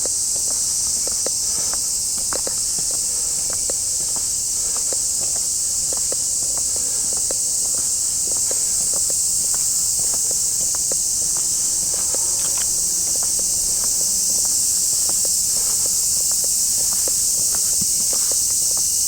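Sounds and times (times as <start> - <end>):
cicadas chorus: 0.0 - 19.0
footsteps crunching on a path: 0.0 - 19.0.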